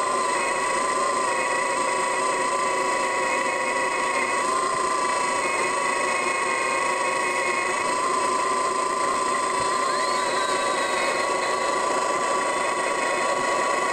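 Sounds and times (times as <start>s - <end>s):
high whine: 0.0s - 13.9s
trenching machine running: 0.0s - 13.9s.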